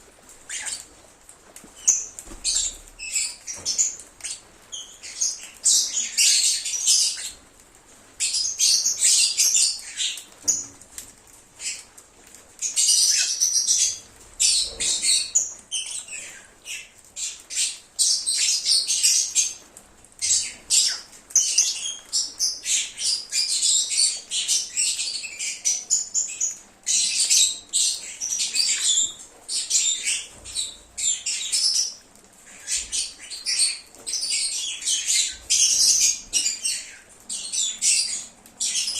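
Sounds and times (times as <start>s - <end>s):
lovebirds chattering and chirping: 0.3s - 1.0s, 1.6s - 7.5s, 8.2s - 10.8s, 11.6s - 12.0s, 12.6s - 38.9s.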